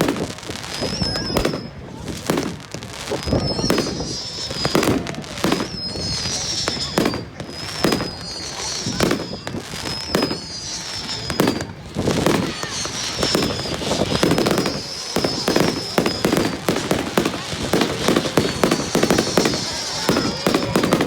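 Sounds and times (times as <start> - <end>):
fireworks bangs and crackling: 0.0 - 21.0
fireworks whistling: 0.0 - 21.0.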